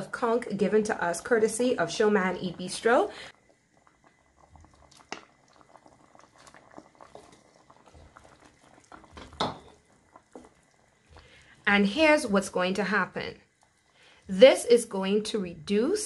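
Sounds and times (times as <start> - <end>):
stew bubbling in a pot: 0.0 - 16.0.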